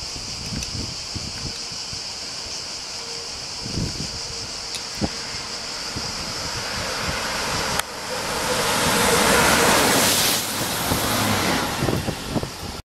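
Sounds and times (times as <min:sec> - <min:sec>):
train passing at speed: 0:01.8 - 0:12.8.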